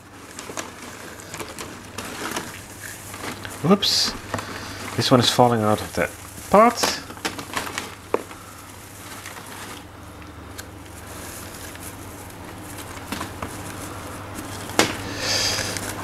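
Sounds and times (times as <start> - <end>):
paper packing filler rustling: 0.0 - 16.0.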